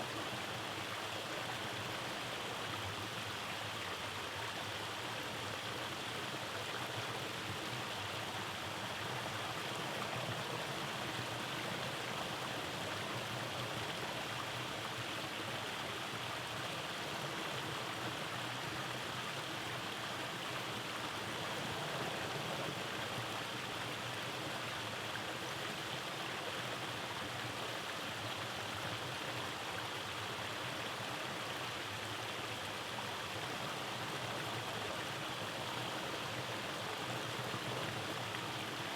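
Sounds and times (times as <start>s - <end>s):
stream flowing over cascades: 0.0s - 38.9s.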